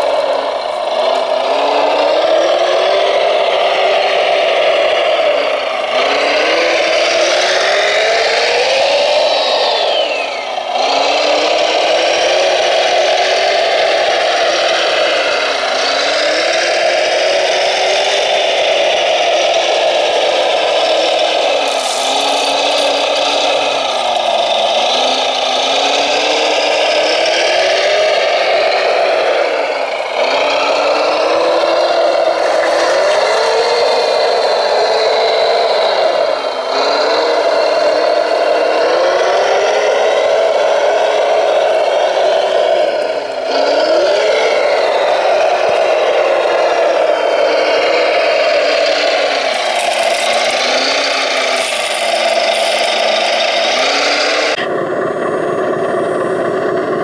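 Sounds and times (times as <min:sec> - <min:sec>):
toy loader motor whining: 0:00.0 - 0:57.0.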